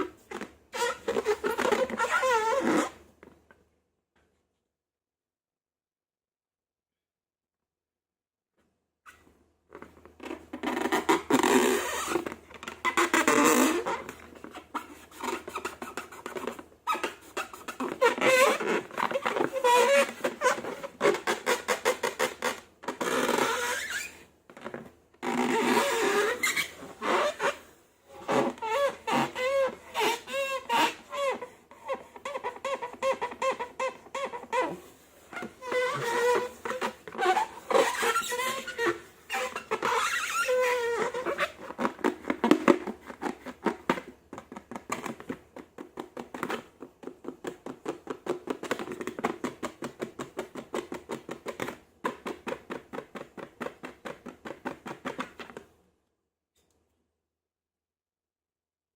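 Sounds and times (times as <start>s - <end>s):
rubber balloons squeaking: 0.0s - 3.0s, 9.1s - 55.7s.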